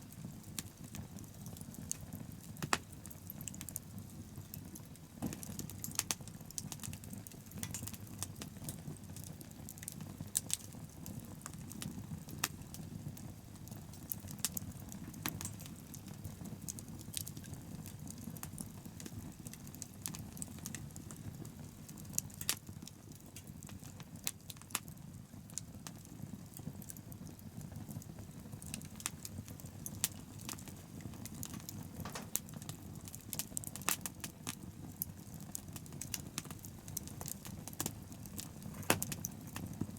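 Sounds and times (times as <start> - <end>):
bonfire crackling and popping: 0.0 - 39.9
low rumble of fire: 0.0 - 39.9.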